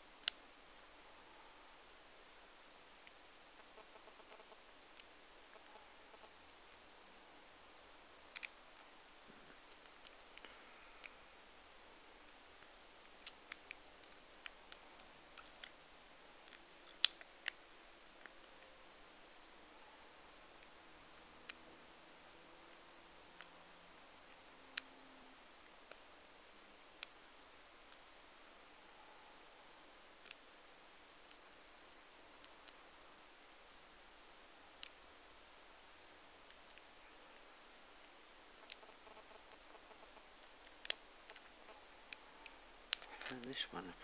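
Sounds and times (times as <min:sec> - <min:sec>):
quiet hiss: 0:00.0 - 0:44.0.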